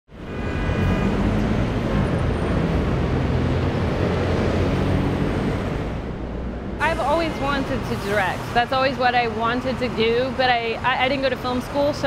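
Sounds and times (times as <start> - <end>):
passing vehicles rumbling: 0.1 - 12.0.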